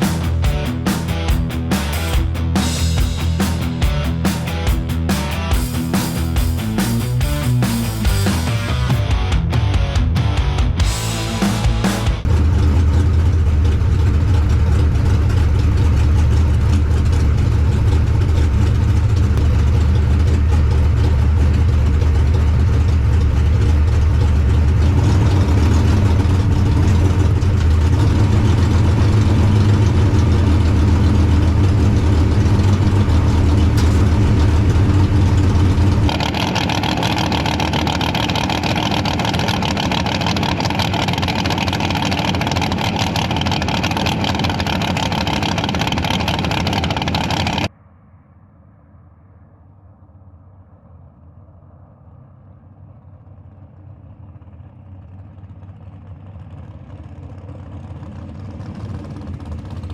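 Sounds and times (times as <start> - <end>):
engine rumbling: 0.0 - 47.8, 49.0 - 59.9.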